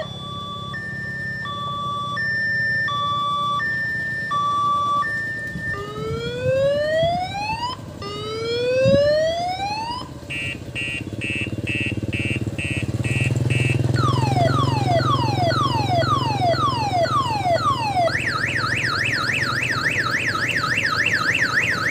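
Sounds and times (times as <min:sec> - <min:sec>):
electronic siren cycling tones: 0:00.0 - 0:21.9
low engine rumble: 0:00.0 - 0:21.9.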